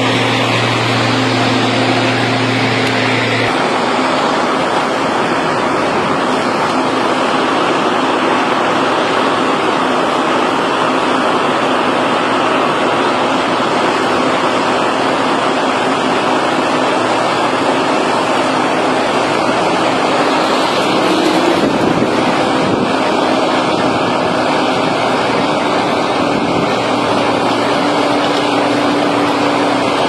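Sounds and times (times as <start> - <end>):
heavy machinery running: 0.0 - 30.0.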